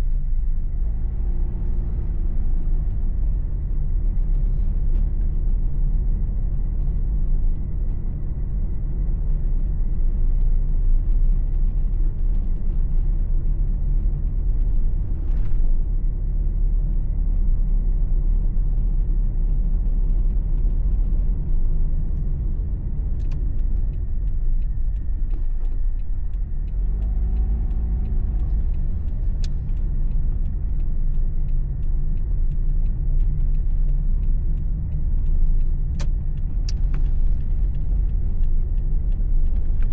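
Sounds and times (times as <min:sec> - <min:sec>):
car engine and road noise: 0:00.0 - 0:39.9
faint light ticks: 0:00.0 - 0:39.9.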